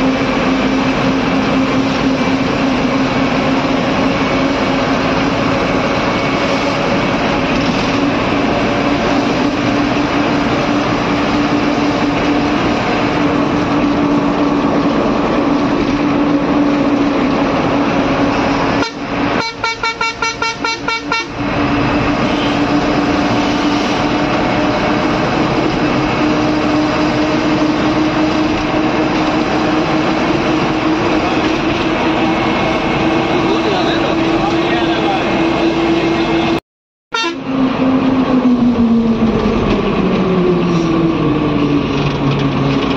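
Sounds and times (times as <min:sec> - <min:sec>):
bus engine and road noise: 0:00.0 - 0:42.9.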